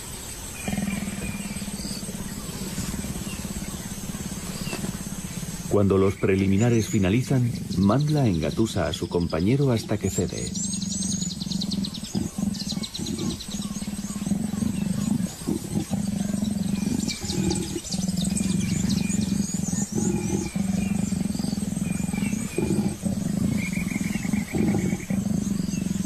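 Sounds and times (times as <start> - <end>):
birds chirping: 0.0 - 26.0
leopards growling: 0.0 - 26.0.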